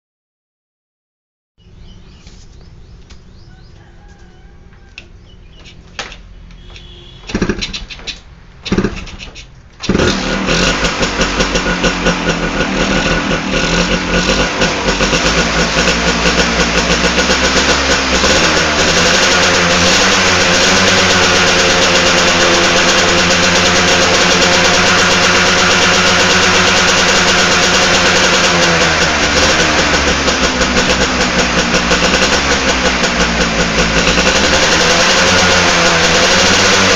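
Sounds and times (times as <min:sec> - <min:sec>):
two-stroke motorcycle engine: 0:06.5 - 0:07.9, 0:08.6 - 0:36.9.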